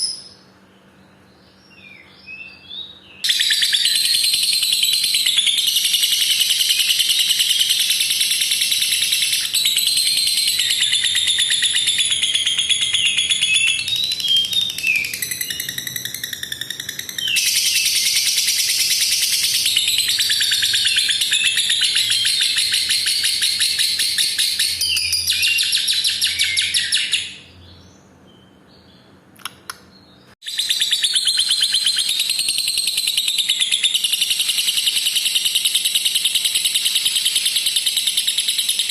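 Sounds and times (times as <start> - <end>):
bird chattering trill: 3.2 - 27.5, 30.5 - 38.9.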